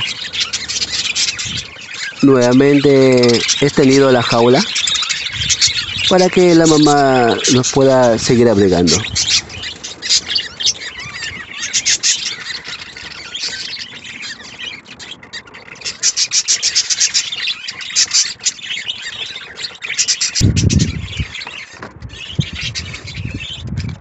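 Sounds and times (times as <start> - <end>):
budgerigars chirping: 0.0 - 24.0.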